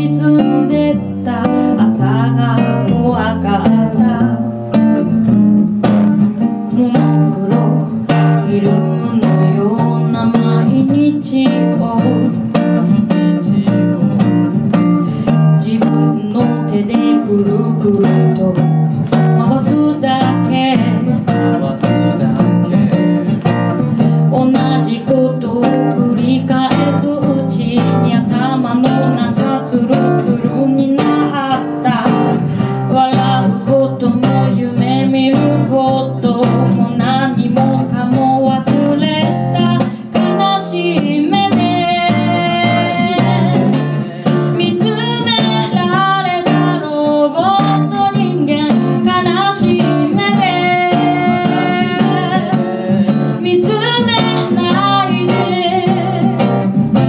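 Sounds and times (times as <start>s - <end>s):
acoustic guitar: 0.0s - 57.0s
woman singing: 0.0s - 57.0s.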